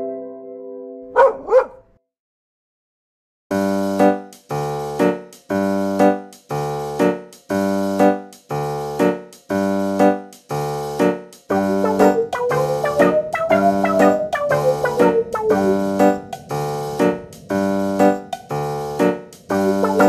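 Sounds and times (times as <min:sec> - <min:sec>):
electric piano playing chords: 0:03.5 - 0:20.0.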